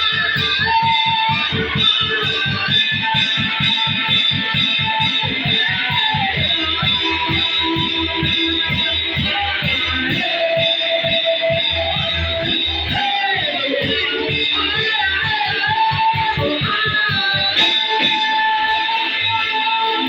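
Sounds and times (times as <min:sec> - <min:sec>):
electric guitar lines: 0:00.0 - 0:20.0
fast steady beat: 0:00.0 - 0:20.0.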